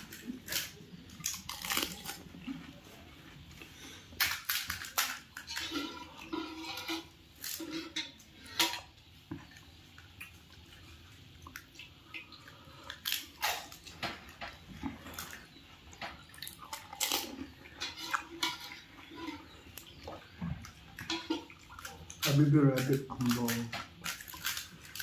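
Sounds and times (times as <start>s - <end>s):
crunching fried shells: 0.0s - 25.0s
wet chewing: 0.0s - 25.0s.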